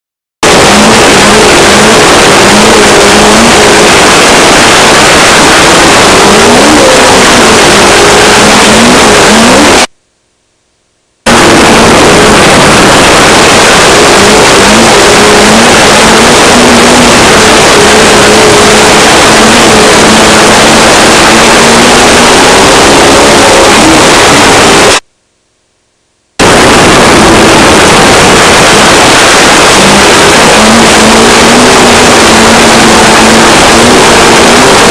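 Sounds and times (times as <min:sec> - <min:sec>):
chassis noise: 0:00.4 - 0:09.9, 0:11.2 - 0:25.1, 0:26.4 - 0:34.9
race car engine revving: 0:00.4 - 0:09.9, 0:11.3 - 0:25.0, 0:26.4 - 0:34.9.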